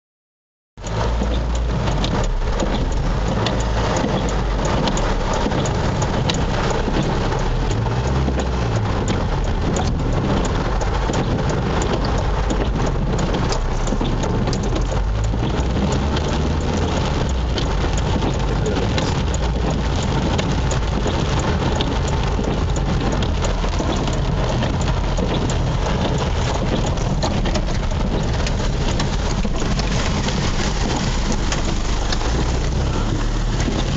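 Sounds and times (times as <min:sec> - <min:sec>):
heavy rain pouring: 0:00.8 - 0:33.9
raindrops ticking on hard surfaces: 0:00.8 - 0:33.9.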